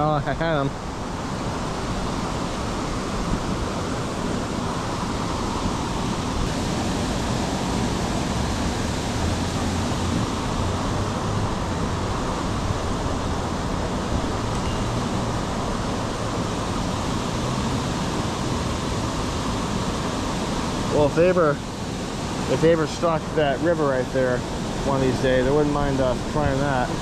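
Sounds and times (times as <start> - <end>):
water rushing through dam outlet: 0.0 - 27.0.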